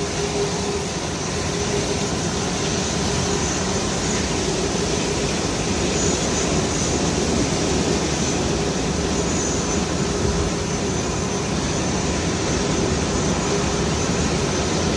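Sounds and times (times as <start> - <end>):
jet engines rumbling: 0.0 - 14.9.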